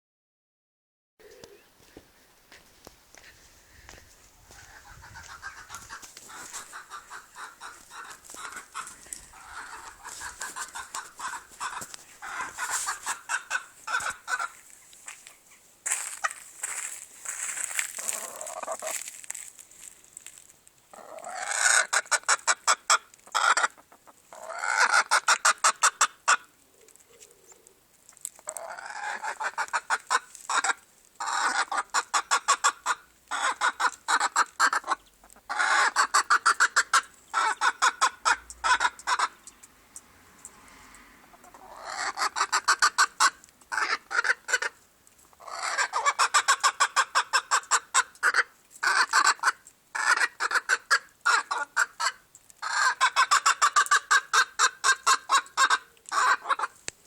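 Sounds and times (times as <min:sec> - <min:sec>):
chicken clucking loudly: 0:04.4 - 0:16.4, 0:18.0 - 0:19.0, 0:20.9 - 0:26.6, 0:28.4 - 0:56.8.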